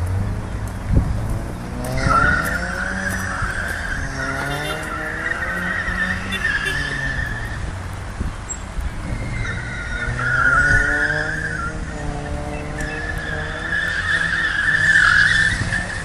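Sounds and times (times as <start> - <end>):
car engine revving: 0.0 - 7.6, 9.0 - 16.0
car tyres squealing: 1.1 - 7.8, 8.5 - 16.0.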